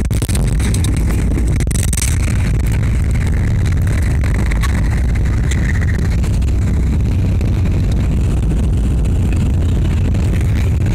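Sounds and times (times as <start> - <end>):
jet engines rumbling: 0.0 - 10.9.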